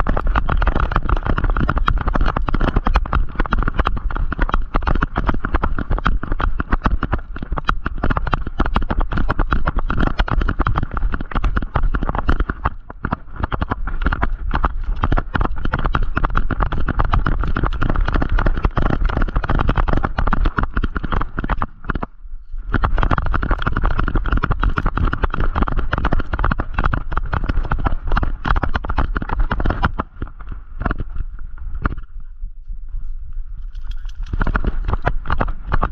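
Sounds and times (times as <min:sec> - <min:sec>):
camera rattling against harness: 0:00.0 - 0:22.0, 0:22.7 - 0:32.1, 0:33.5 - 0:35.9
dog paws pounding ground: 0:00.0 - 0:22.1, 0:22.7 - 0:32.1, 0:33.6 - 0:35.9.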